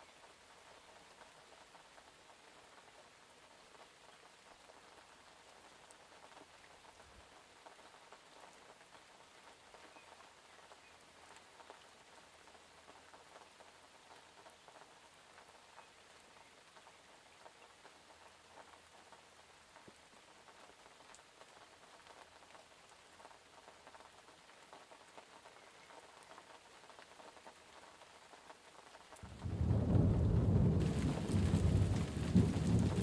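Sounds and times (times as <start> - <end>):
faint steady rainfall: 0.0 - 33.0
raindrops ticking on a surface: 0.0 - 33.0.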